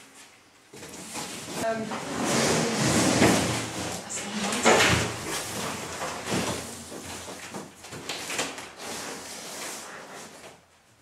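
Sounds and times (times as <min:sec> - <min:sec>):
foam sheet rustling and scraping: 0:00.8 - 0:10.6.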